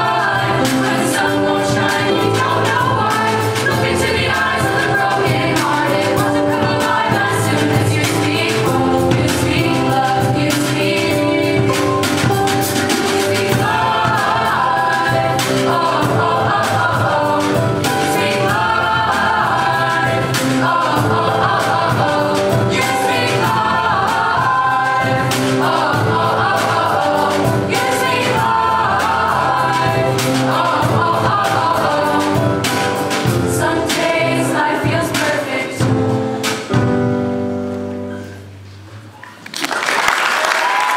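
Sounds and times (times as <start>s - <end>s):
youth choir singing: 0.0s - 36.4s
drums striking: 0.0s - 37.6s
keyboard: 0.0s - 38.6s.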